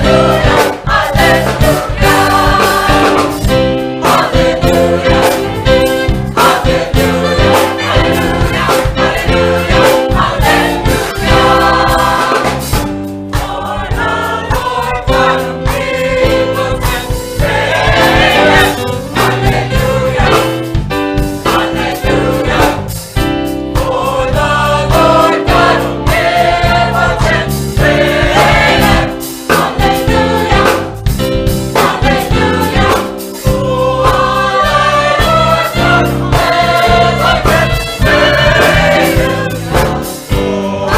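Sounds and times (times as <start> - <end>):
gospel choir singing: 0.0 - 40.9
instrumental accompaniment with beat: 0.0 - 40.9.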